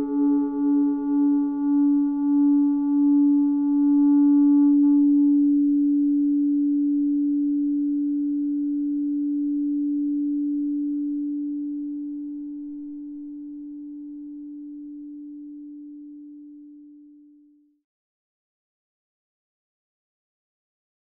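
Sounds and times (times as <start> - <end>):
electronic sine tone: 0.0 - 17.8.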